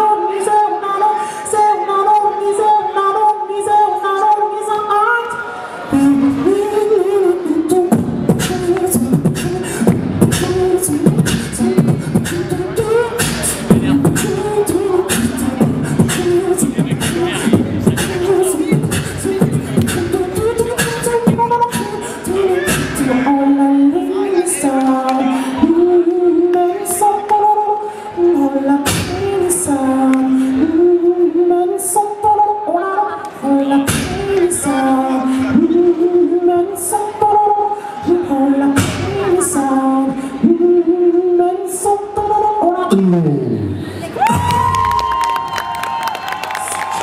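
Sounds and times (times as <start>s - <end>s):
beatboxed bass: 1.5s - 44.9s.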